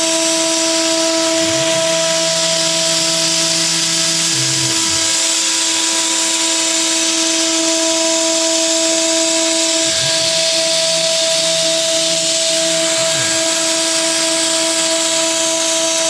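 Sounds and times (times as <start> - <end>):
cutting hiss: 0.0 - 16.0
lower hum: 0.0 - 16.0
spindle high whine: 0.0 - 16.0.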